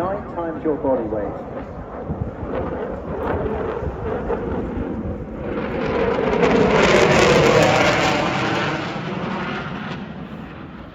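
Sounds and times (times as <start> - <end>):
fighter jet engines roaring: 0.0 - 10.9.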